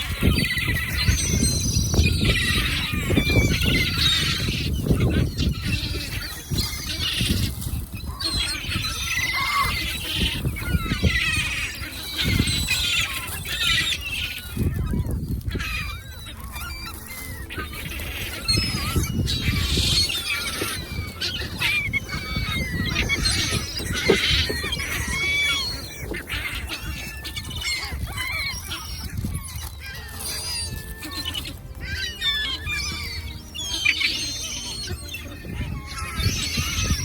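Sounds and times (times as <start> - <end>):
flock of birds calling: 0.0 - 37.0
wind rumble on microphone: 0.0 - 37.0.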